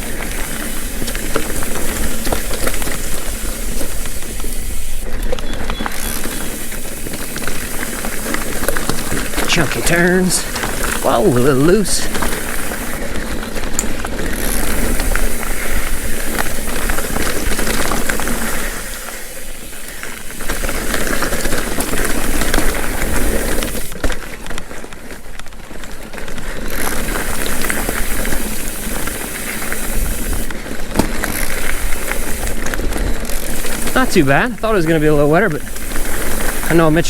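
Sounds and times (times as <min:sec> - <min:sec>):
bike clicks and rattles: 0:00.0 - 0:37.0
bike tyres on rocky trail: 0:00.0 - 0:37.0.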